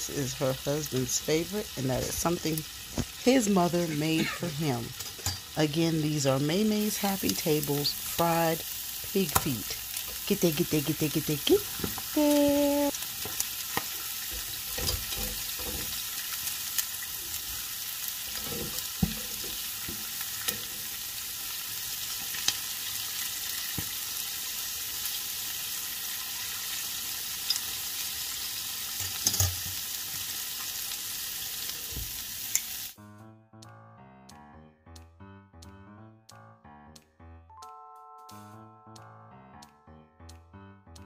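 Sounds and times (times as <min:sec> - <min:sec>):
oil sizzling in skillet: 0:00.0 - 0:33.0.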